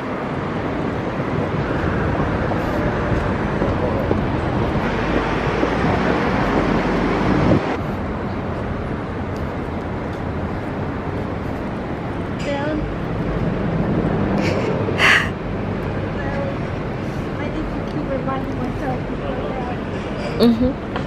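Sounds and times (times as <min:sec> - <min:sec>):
cars passing: 0:00.0 - 0:21.0
steady city hum: 0:00.0 - 0:21.0.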